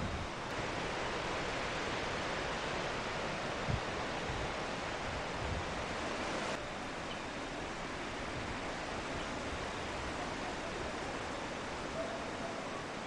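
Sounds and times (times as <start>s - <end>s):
wind hiss: 0.0s - 13.0s.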